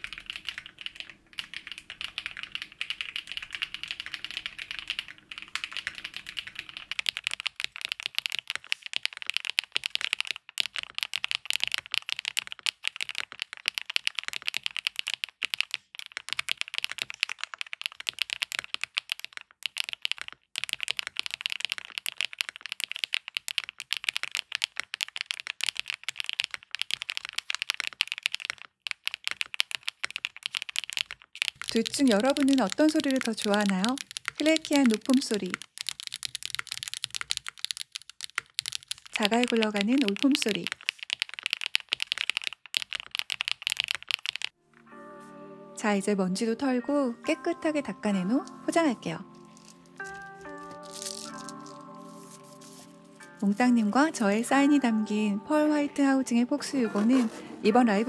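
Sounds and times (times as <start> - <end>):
fast typing on mechanical keyboard: 0.0 - 44.6, 48.2 - 55.3, 56.3 - 58.0.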